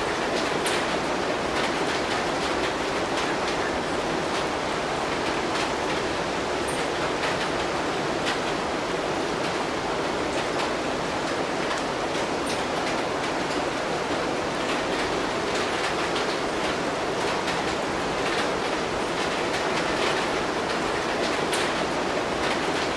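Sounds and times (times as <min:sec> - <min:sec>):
rain on foliage: 0:00.0 - 0:22.9.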